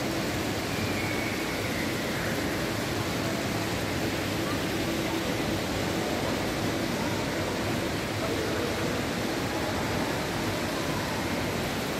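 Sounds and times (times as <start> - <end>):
indoor fountain water rushing: 0.0 - 11.9.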